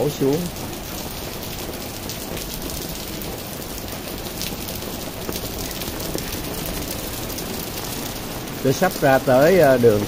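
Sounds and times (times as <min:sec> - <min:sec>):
steady rain falling: 0:00.0 - 0:10.0
water pouring down: 0:00.0 - 0:10.0.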